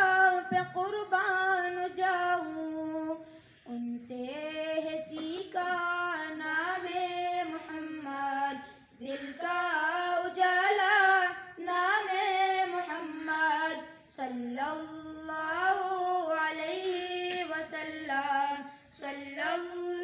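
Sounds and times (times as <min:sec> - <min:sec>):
boys singing into a microphone: 0:00.0 - 0:20.0.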